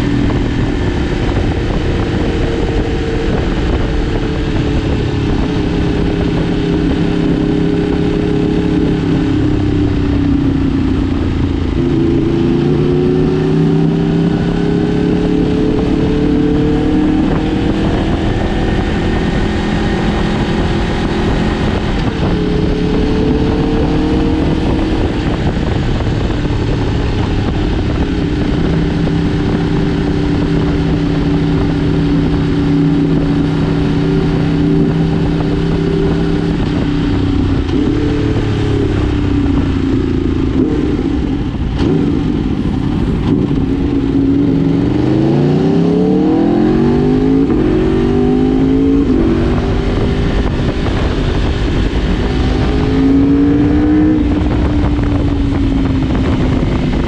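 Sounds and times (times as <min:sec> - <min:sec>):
motorcycle engines running: 0:00.0 - 0:57.0
steady rushing noise: 0:00.0 - 0:57.0.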